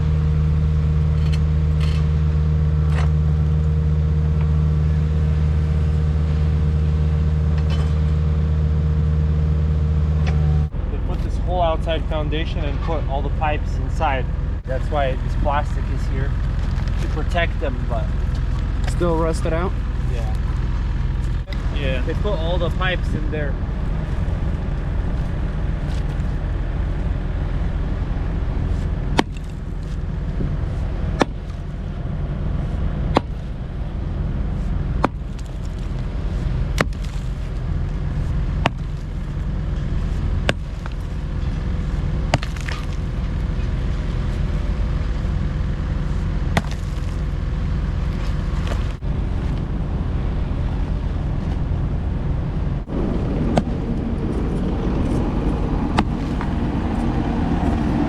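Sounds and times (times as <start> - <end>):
heavy engine rumbling: 0.0 - 58.0.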